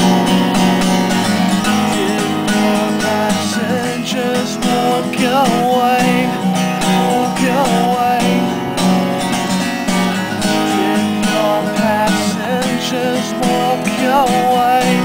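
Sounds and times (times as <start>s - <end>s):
acoustic guitar strumming: 0.0s - 15.0s
man singing long wavering notes: 1.6s - 9.1s, 10.3s - 15.0s.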